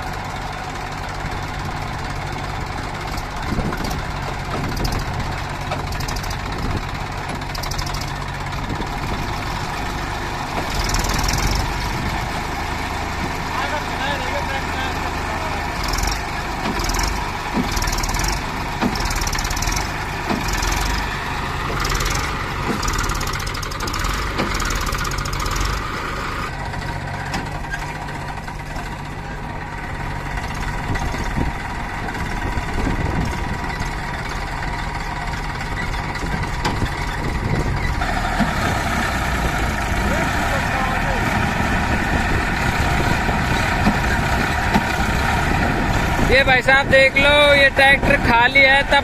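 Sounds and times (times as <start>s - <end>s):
heavy diesel machinery running: 0.0s - 49.0s.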